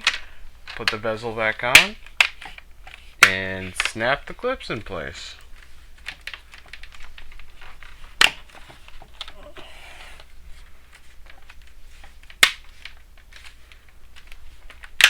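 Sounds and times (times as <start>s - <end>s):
plastic clips snapping: 0.0s - 15.0s
plastic rubbing on plastic: 0.0s - 15.0s.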